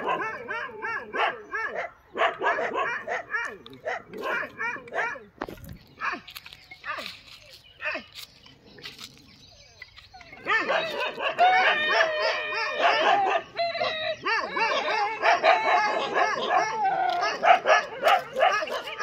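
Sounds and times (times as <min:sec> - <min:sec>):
dogs barking and yelping: 0:00.0 - 0:08.2, 0:08.8 - 0:19.0.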